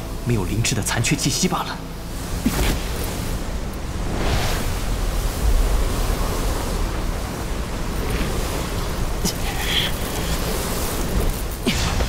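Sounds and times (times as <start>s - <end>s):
deep rushing rumble: 1.9s - 12.0s.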